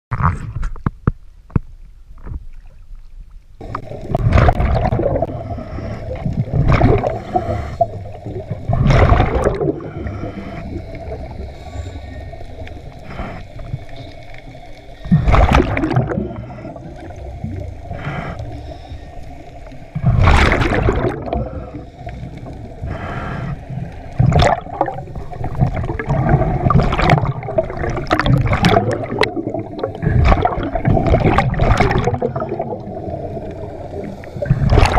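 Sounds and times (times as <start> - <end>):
scuba exhaust bubbles gurgling: 3.6 - 34.9.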